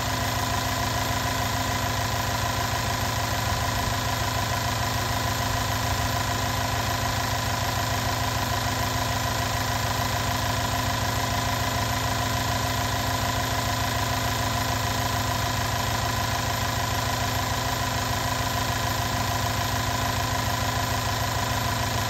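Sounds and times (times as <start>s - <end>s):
car engine idling with whine: 0.0s - 22.0s.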